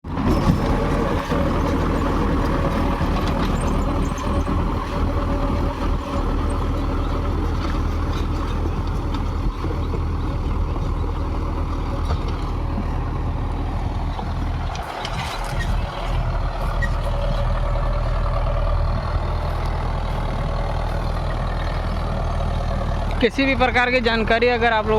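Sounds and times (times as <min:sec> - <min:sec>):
tractor diesel engine under load: 0:00.0 - 0:24.9.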